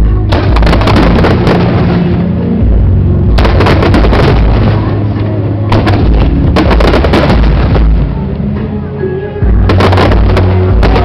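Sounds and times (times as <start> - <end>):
fireworks booming: 0.0 - 8.3, 9.5 - 11.0
fireworks crackling: 0.0 - 8.6, 9.5 - 11.0.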